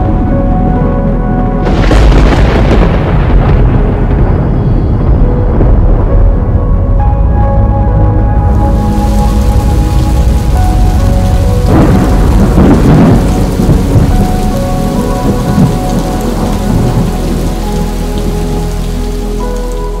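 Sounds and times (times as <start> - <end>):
ambient music chords: 0.0 - 20.0
steady rain: 0.0 - 20.0
thunder rumbling: 0.0 - 20.0.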